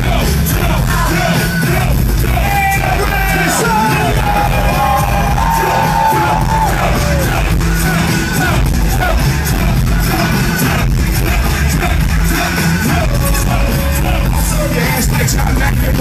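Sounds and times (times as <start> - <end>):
crowd yelling along: 0.0 - 14.8
live concert music: 0.0 - 16.0.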